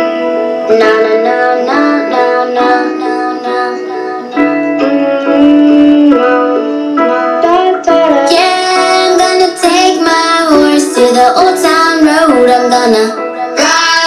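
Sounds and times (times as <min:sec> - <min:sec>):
children singing pop song: 0:00.0 - 0:14.0
guitar: 0:00.0 - 0:14.0.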